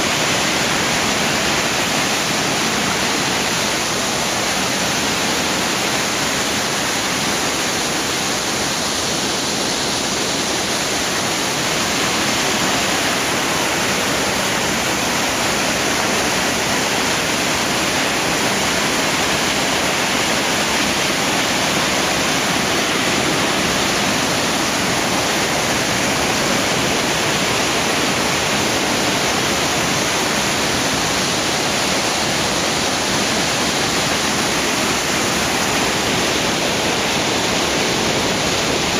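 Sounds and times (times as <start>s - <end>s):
water rushing over a weir: 0.0s - 38.9s.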